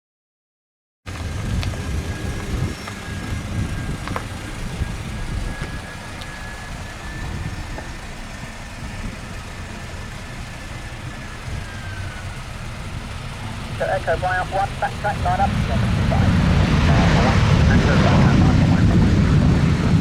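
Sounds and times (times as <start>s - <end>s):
jet engine whine and rumble: 1.1s - 20.0s.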